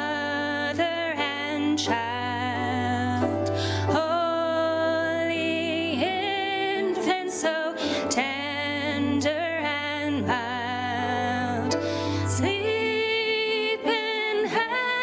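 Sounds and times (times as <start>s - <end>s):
women singing a carol: 0.0s - 3.3s, 3.9s - 15.0s
grand piano accompaniment: 0.0s - 15.0s.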